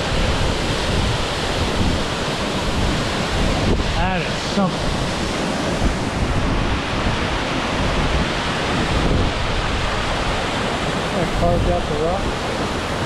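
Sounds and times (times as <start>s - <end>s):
waterfall roaring: 0.0s - 13.0s
wind rumbling on microphone: 0.0s - 13.0s.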